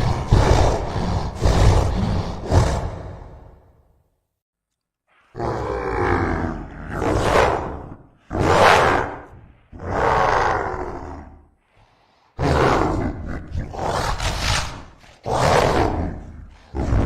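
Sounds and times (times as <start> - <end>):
creature roaring: 0.0 - 3.7, 5.3 - 11.4, 12.4 - 17.0.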